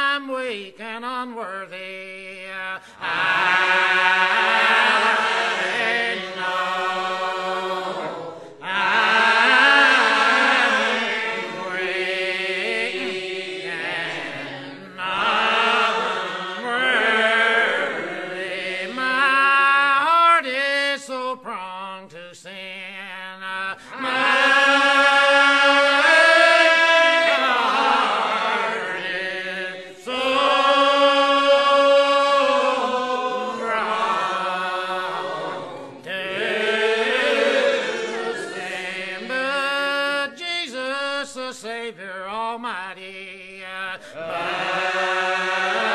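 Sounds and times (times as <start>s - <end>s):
congregation singing a hymn: 0.0s - 45.9s.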